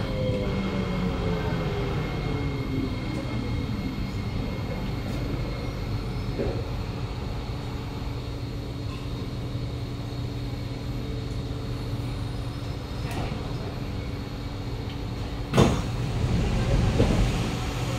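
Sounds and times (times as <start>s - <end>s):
train car hum: 0.0s - 17.9s.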